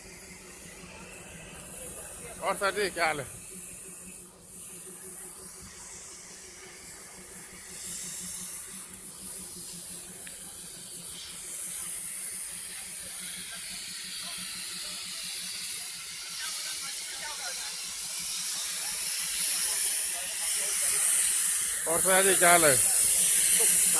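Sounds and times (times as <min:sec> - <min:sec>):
steam locomotive hissing: 0:00.0 - 0:23.9.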